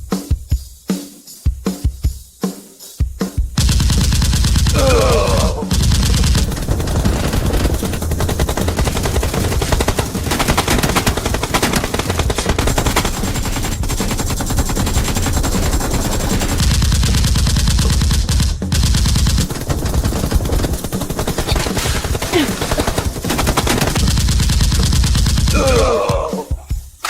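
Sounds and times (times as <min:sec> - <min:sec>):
rapid automatic gunfire: 0:03.6 - 0:26.0.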